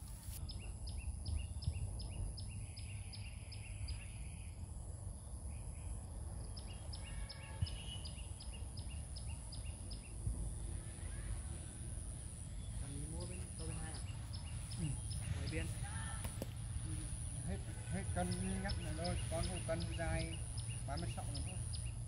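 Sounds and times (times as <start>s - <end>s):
low outdoor rumble: 0.0s - 22.0s
thin high hum: 0.0s - 22.0s.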